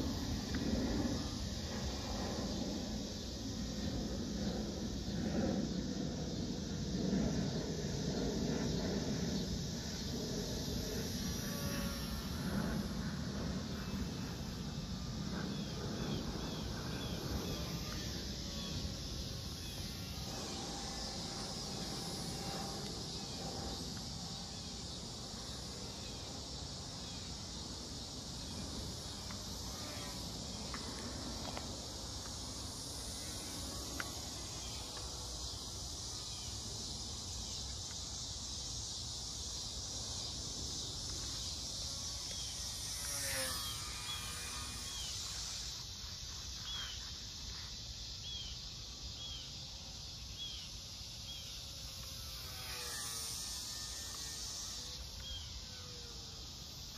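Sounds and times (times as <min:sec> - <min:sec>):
high insect drone: 0:00.0 - 0:56.9.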